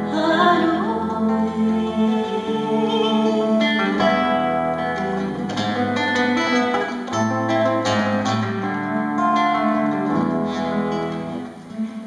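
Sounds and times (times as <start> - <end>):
classical guitar: 0.0 - 12.0.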